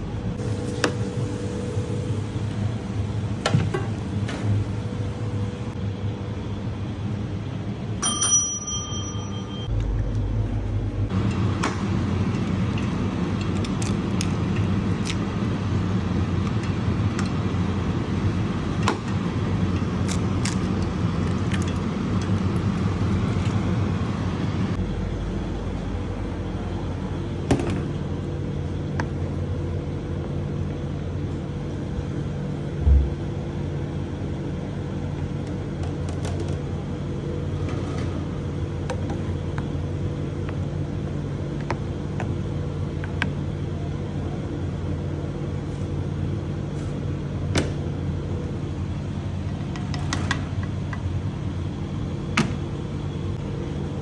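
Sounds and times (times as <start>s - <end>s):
kitchen ventilation drone: 0.0s - 54.0s.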